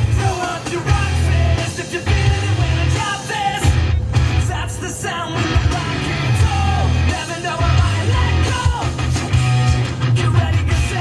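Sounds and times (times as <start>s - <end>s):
person singing and yelling: 0.0s - 3.8s, 4.4s - 9.2s, 10.0s - 11.0s
booming bass: 0.0s - 11.0s
rock music from car stereo: 0.0s - 11.0s.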